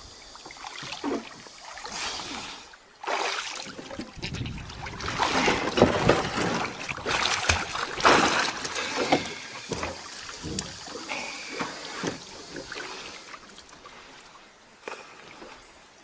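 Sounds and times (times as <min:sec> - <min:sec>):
water splashing around swimmer: 0:00.1 - 0:15.7.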